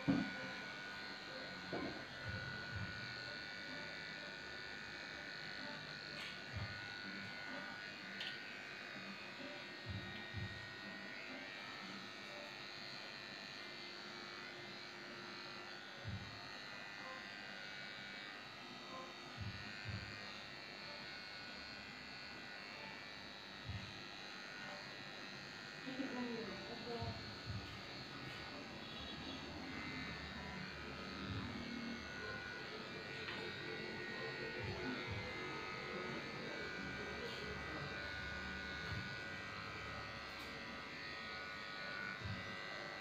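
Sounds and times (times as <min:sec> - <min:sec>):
electric clippers running: 0:00.0 - 0:43.0.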